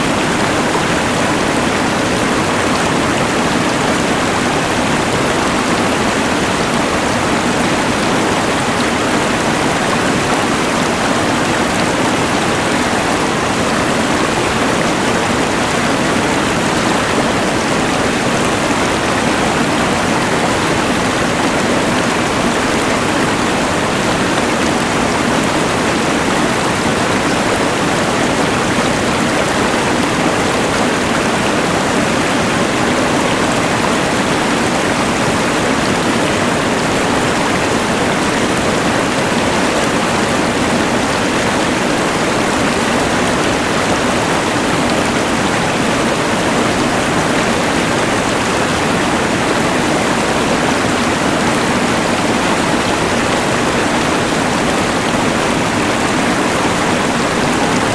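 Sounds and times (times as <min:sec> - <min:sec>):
rushing mountain river: 0:00.0 - 0:57.9.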